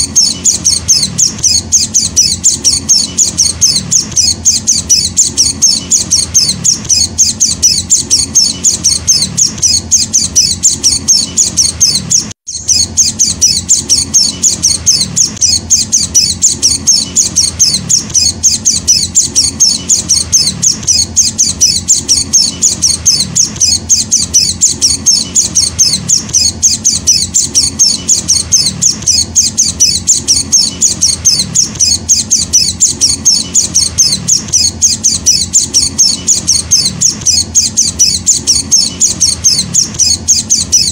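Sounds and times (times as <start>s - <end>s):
bird chick chirping: 0.0s - 40.9s.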